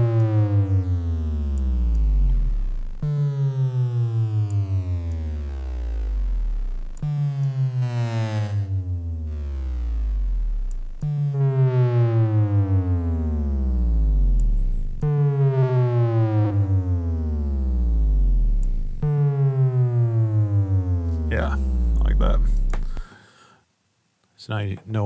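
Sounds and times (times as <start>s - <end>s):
distorted synth bass drop: 0.0s - 23.0s.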